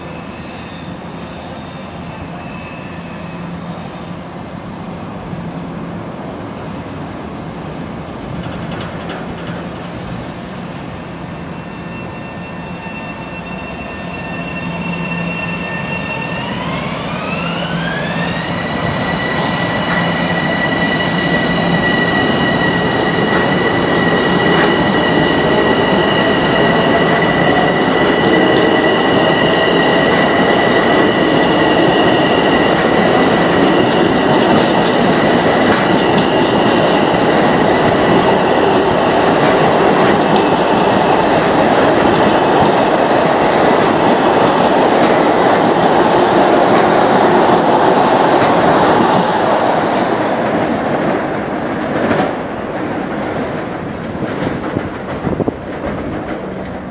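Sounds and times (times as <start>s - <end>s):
train running noise: 0.0s - 56.9s.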